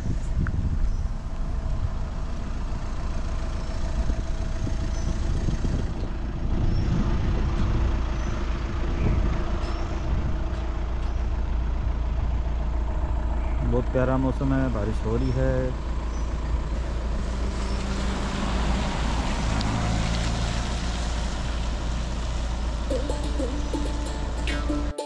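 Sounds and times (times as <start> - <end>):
car engine idling: 0.0 - 19.6, 20.6 - 24.9.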